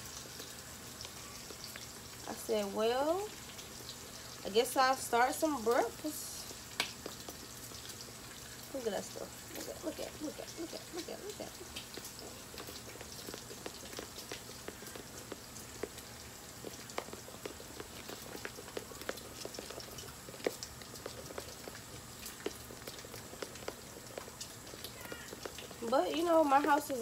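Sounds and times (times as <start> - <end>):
bacon sizzling and popping: 0.0 - 27.0.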